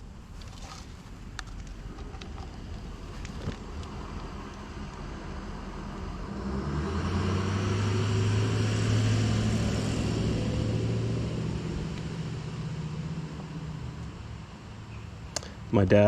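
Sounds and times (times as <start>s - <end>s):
passing engine hum: 0.9s - 15.7s.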